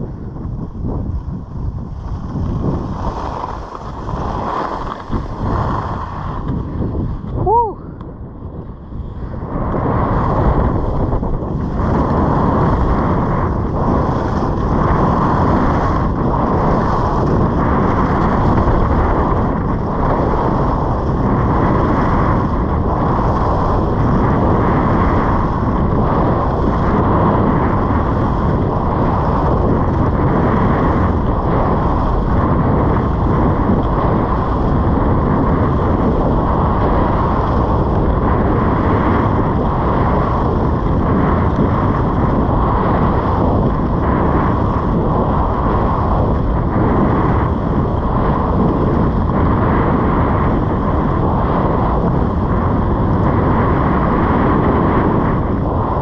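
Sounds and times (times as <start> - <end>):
wind rushing over microphone: 0.0 - 56.0
skis sliding on snow: 0.1 - 7.4, 9.0 - 55.9.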